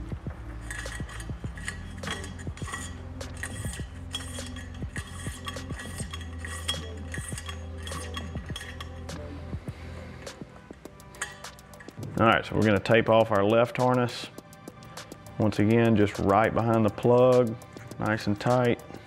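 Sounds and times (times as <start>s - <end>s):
wire scraping metal tube: 0.0s - 9.5s, 10.2s - 19.0s
background music with bass: 0.0s - 19.0s.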